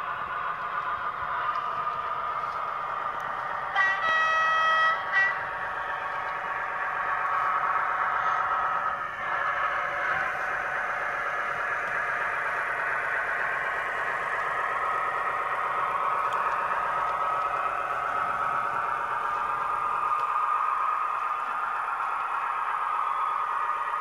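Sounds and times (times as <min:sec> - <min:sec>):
diesel engine sound through small speaker: 0:00.0 - 0:24.0.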